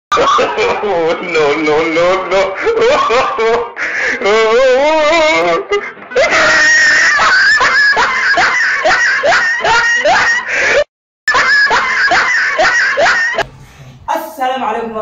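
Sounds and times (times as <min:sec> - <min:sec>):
high-pitched screaming laughter: 0:00.1 - 0:13.4.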